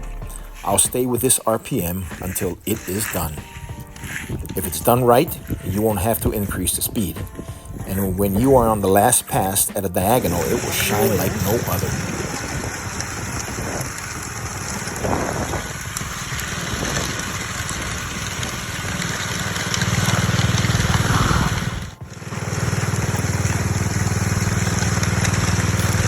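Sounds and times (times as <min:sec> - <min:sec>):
power trowel engine running: 0:00.0 - 0:26.0.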